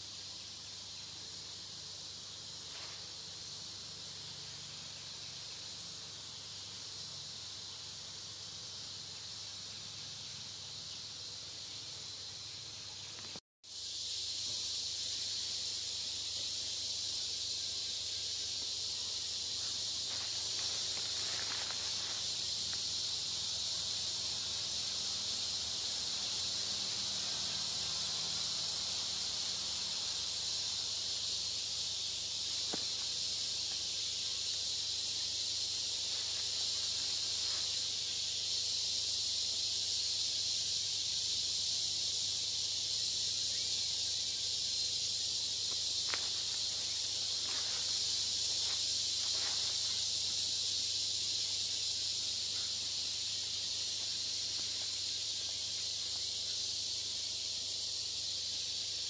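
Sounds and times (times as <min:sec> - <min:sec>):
insect chorus hiss: 0:00.0 - 0:59.0.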